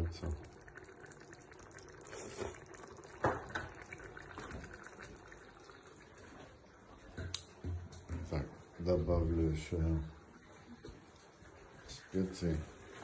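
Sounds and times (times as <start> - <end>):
liquid in a pot: 0.0 - 13.0.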